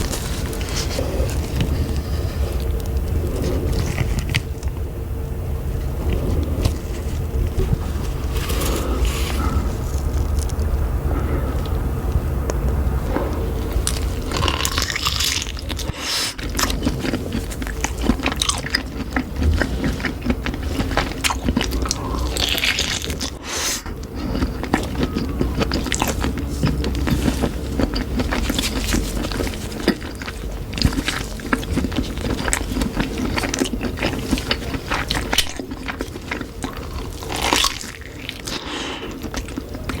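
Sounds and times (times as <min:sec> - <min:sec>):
steady low hum: 0:00.0 - 0:40.0
chewing and biting sausage: 0:06.0 - 0:11.8, 0:12.6 - 0:40.0.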